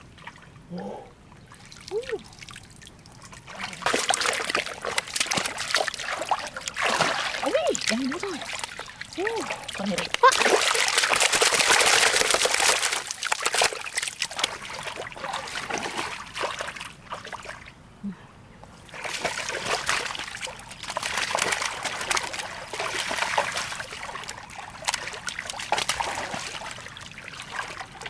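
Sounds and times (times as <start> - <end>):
water splashing and trickling: 0.0 - 17.8, 18.7 - 28.0.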